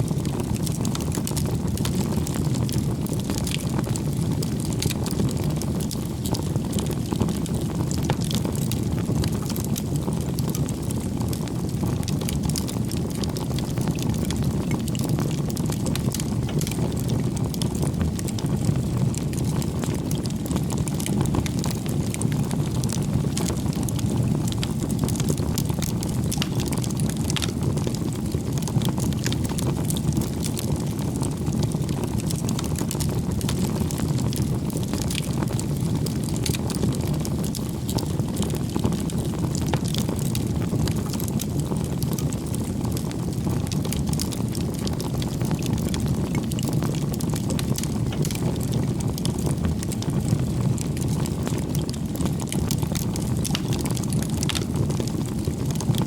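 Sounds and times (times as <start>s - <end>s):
fire crackling and popping: 0.0s - 56.0s
fire roaring: 0.0s - 56.0s.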